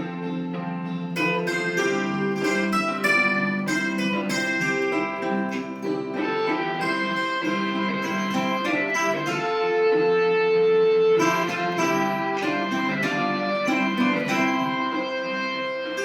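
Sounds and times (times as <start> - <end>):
plucked guitar hymn melody: 0.0 - 16.0.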